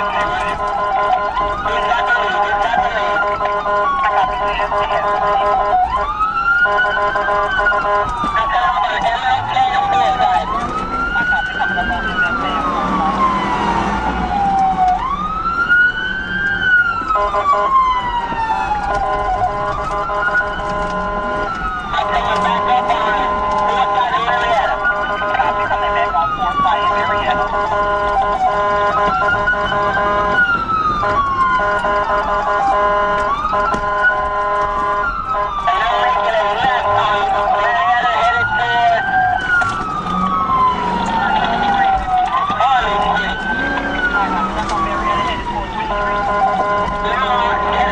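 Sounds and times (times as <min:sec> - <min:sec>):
police siren wailing: 0:00.0 - 0:47.9
road and engine rumble: 0:00.0 - 0:47.9
lower pulsing siren tone: 0:09.4 - 0:47.9.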